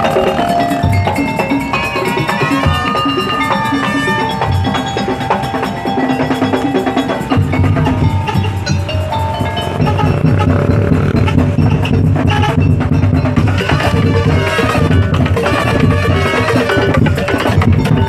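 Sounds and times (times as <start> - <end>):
drums and gongs beat: 0.0 - 18.0
tuned percussion melody: 0.0 - 18.0.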